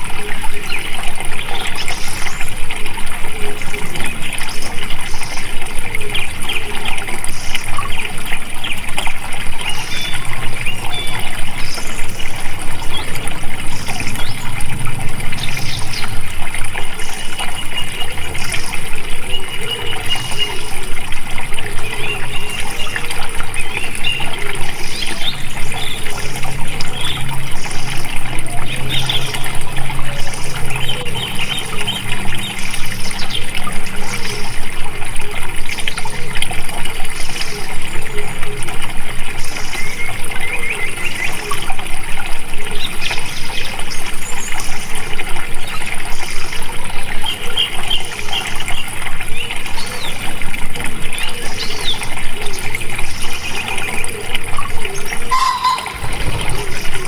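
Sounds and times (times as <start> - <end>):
water flowing and trickling: 0.0 - 57.0.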